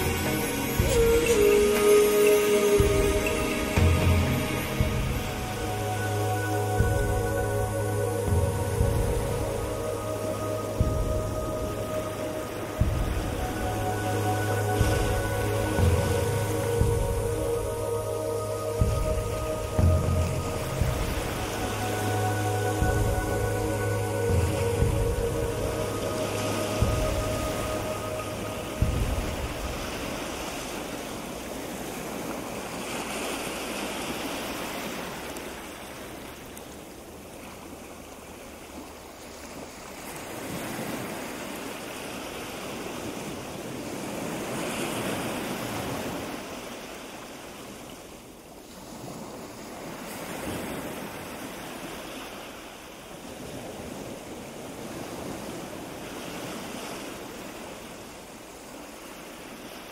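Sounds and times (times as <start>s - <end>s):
wind gusting across microphone: 0.0s - 59.9s.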